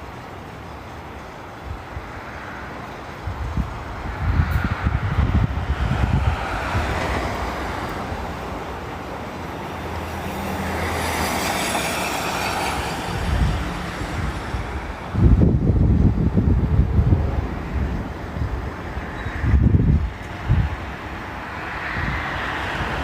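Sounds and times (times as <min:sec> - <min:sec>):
vehicle passing: 0:02.4 - 0:23.0
wind buffeting microphone: 0:03.0 - 0:23.0.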